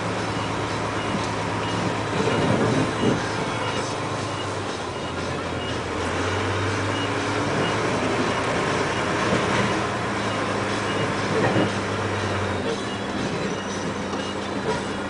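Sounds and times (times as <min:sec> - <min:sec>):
diesel truck engine humming: 0:00.0 - 0:15.0.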